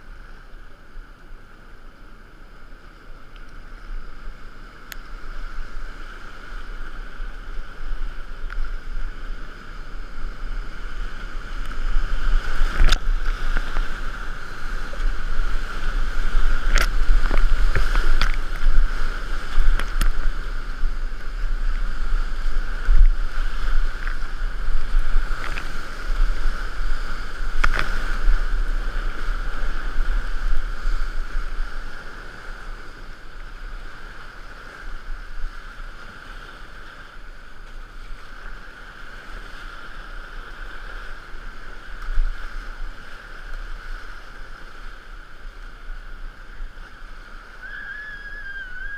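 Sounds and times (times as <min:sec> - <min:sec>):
kayak paddling: 0:00.0 - 0:48.9
rushing whitewater: 0:00.0 - 0:48.9.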